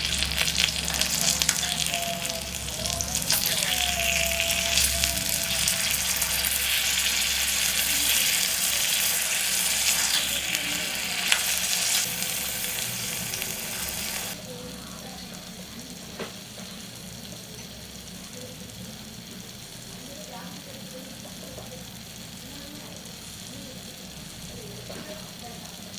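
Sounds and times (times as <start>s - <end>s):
food sizzling in hot oil: 0.0s - 25.9s.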